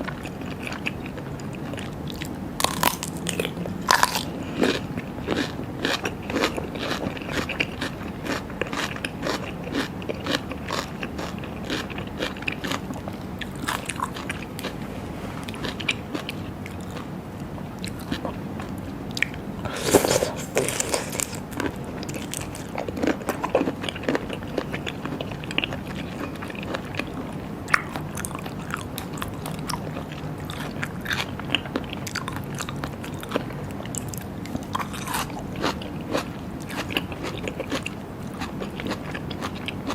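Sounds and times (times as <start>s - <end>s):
chewing and crunching: 0.0s - 14.8s, 15.4s - 39.9s.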